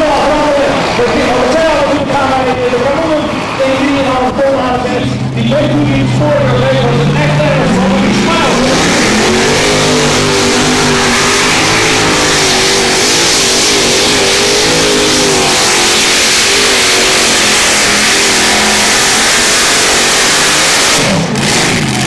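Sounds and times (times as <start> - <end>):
supercharged tractor engine flat out: 0.0 - 22.0.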